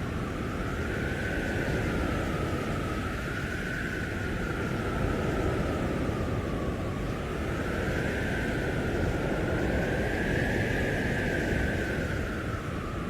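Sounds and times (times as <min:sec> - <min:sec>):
blizzard wind howling: 0:00.0 - 0:13.0.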